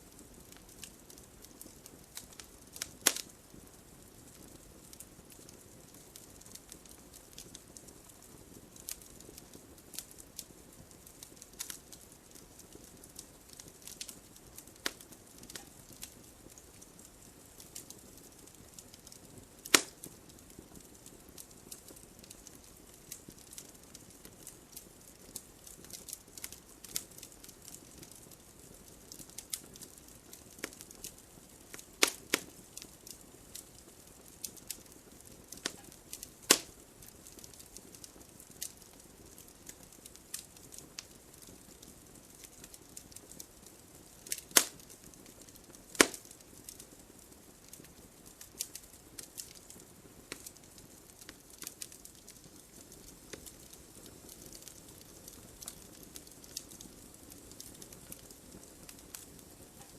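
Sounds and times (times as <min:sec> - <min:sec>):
logs crackling in fireplace: 0:00.0 - 0:59.9.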